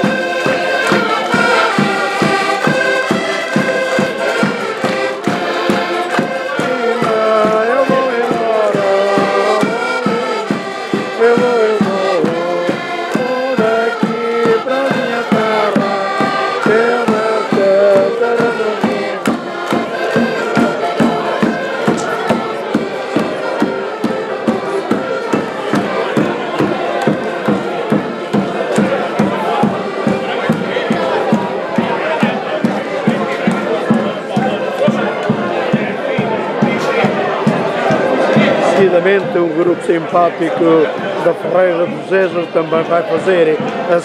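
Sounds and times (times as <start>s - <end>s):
bass drum beat: 0.0s - 39.5s
sustained melody instruments: 0.0s - 44.0s
voices singing together: 0.0s - 44.0s.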